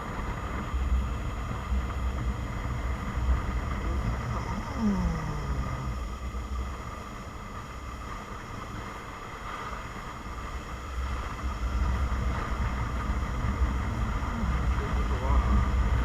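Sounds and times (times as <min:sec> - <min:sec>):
car engine and road rumble: 0:00.0 - 0:16.0
faint wind hiss: 0:00.0 - 0:16.0.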